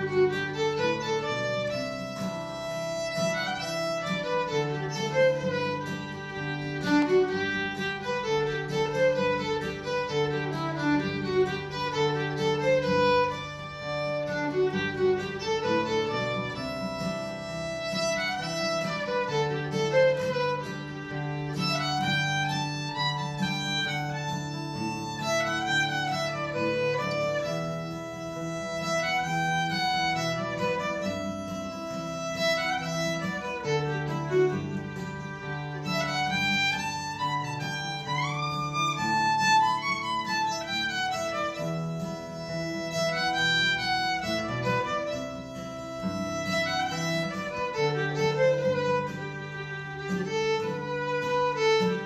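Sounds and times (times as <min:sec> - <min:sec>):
acoustic guitar: 0:00.0 - 0:52.0
violin melody: 0:00.0 - 0:52.0.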